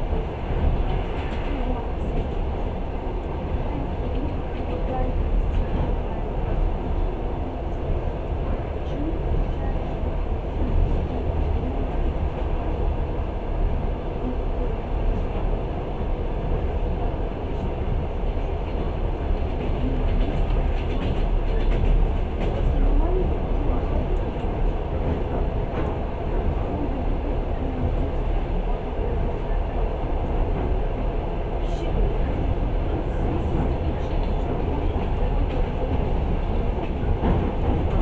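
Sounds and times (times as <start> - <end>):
train rumble inside carriage: 0.0 - 38.0.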